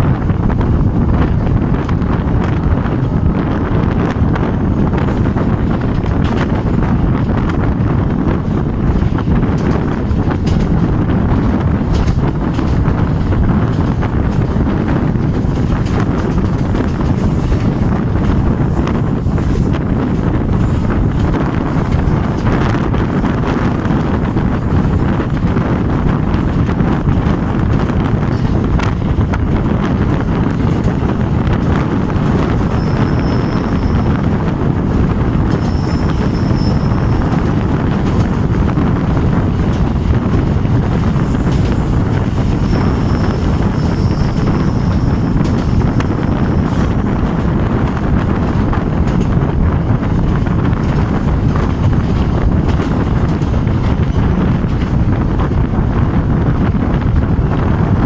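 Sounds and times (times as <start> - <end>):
train rumble: 0.0 - 58.0
wind buffeting microphone: 0.0 - 58.0.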